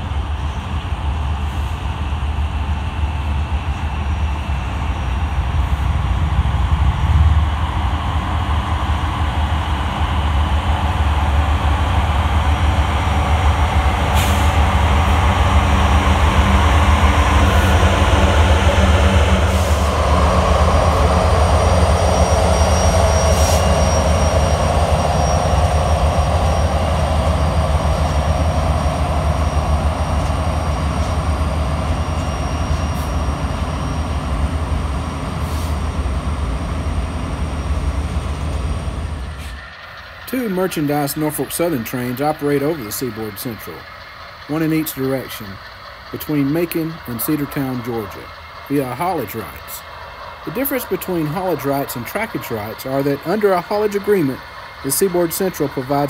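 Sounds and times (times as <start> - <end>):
diesel locomotive engine rumble: 0.0 - 56.0
freight cars rolling on rails: 0.0 - 56.0.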